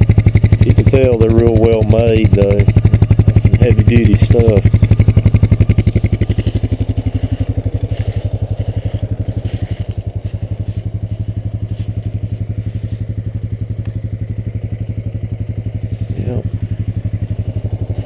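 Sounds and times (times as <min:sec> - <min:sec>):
atv engine idling: 0:00.0 - 0:18.0.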